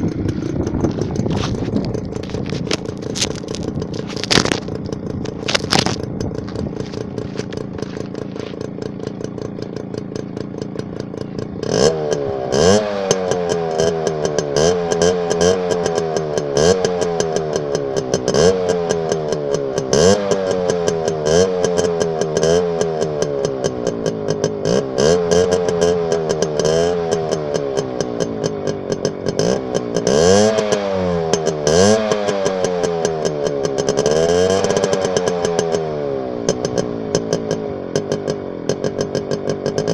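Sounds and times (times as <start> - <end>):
engine idling: 0.0 - 39.9
engine revving in blips: 0.0 - 39.9.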